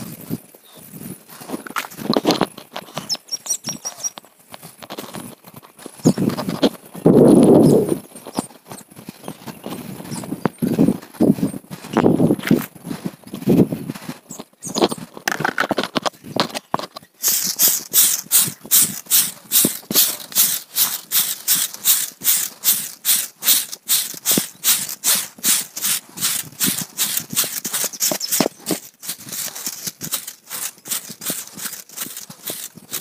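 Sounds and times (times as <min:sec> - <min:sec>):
broom sweeping the ground: 0:00.0 - 0:15.2, 0:16.1 - 0:33.0.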